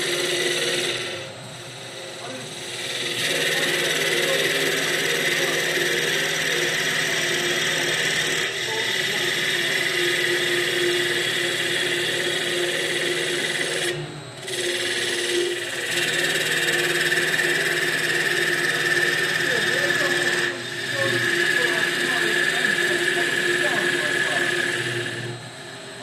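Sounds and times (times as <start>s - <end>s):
lathe cutting wood: 0.0s - 26.0s
wood lathe machine whine: 0.0s - 26.0s.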